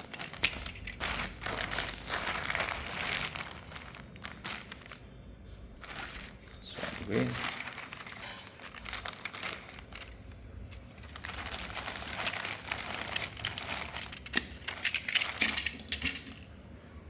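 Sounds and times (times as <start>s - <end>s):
plastic packaging crinkling: 0.0s - 5.1s, 5.8s - 16.5s.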